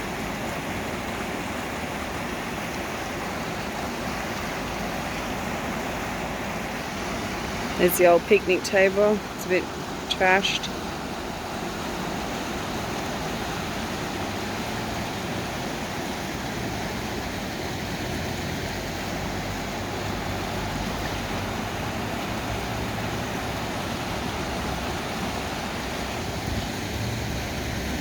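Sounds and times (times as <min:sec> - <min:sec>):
floodwater rushing in a creek: 0:00.0 - 0:28.0.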